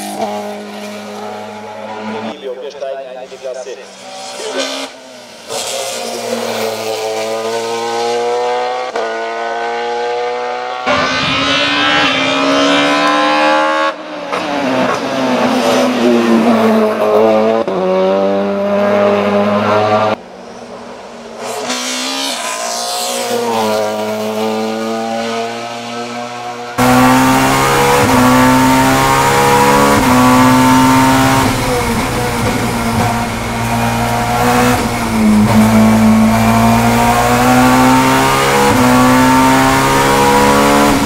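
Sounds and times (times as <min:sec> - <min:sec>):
race car engine at high revs: 0:00.0 - 0:02.4, 0:03.7 - 0:41.0.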